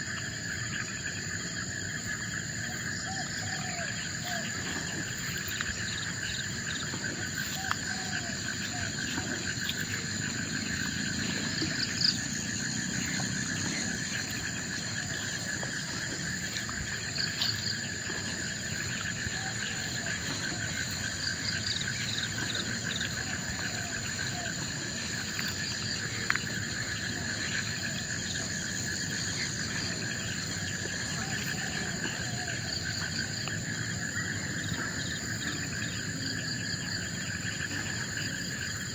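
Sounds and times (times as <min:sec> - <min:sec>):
faint animal calls: 0:00.0 - 0:38.9
insects trilling: 0:00.0 - 0:38.9.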